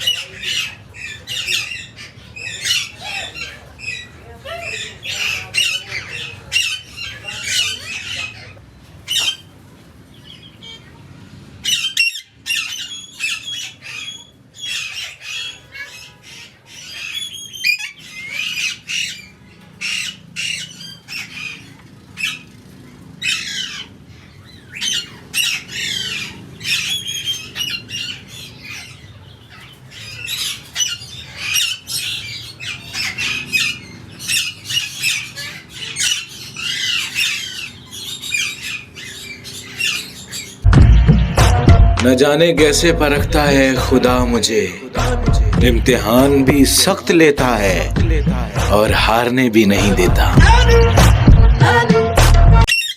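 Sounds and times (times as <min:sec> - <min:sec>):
birds squawking: 0:00.0 - 0:52.9.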